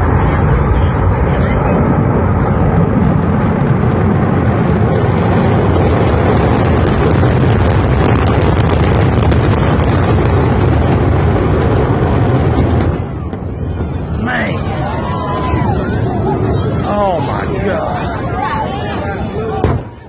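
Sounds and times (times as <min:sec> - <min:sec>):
rocket roaring with crackling: 0:00.0 - 0:20.0.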